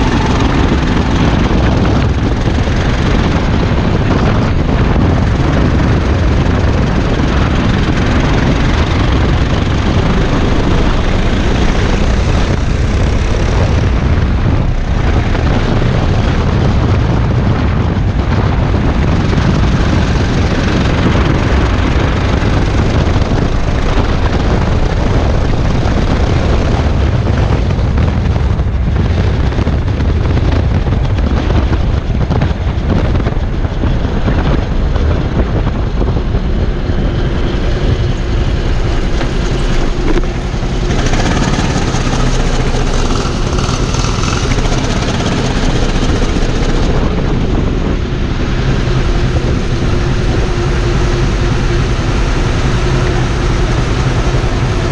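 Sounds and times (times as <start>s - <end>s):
go-kart engine running hard: 0.0s - 54.9s
wind rushing over microphone: 0.0s - 54.9s.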